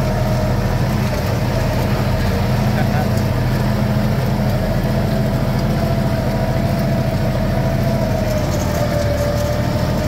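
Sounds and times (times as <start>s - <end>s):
diesel tractor engine running: 0.0s - 10.0s.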